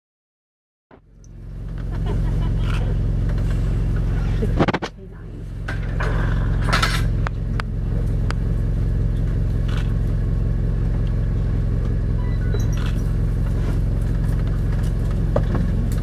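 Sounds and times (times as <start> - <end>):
vehicle engine idling: 1.0 - 16.0.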